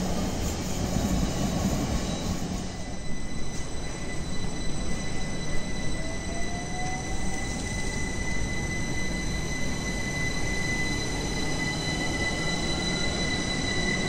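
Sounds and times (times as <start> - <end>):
high-pitched whine: 0.0 - 14.0
train rumbling: 0.0 - 14.0.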